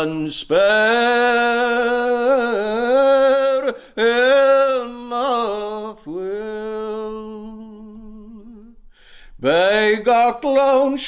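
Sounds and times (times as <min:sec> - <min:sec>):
person singing unaccompanied: 0:00.0 - 0:08.7, 0:09.4 - 0:11.0.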